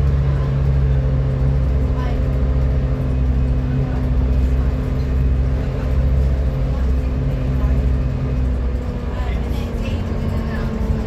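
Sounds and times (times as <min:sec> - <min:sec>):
bus engine droning hum: 0:00.0 - 0:11.0.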